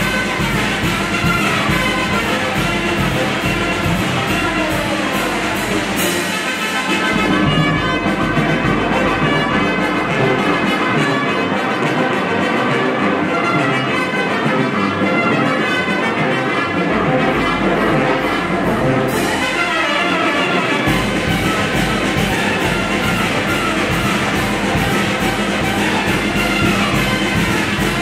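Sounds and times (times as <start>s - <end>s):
brass band playing: 0.0s - 28.0s.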